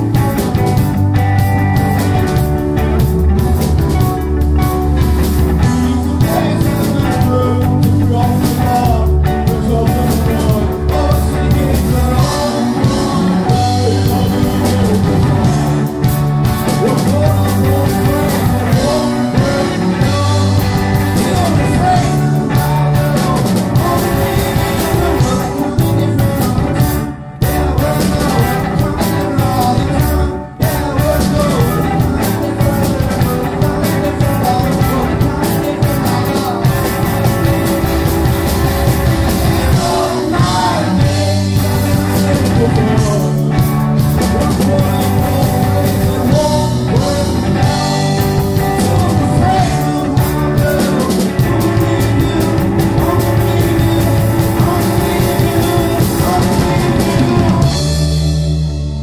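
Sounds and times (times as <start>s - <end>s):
drum kit: 0.0s - 59.0s
electric guitar: 0.0s - 59.0s
keyboard: 0.0s - 59.0s.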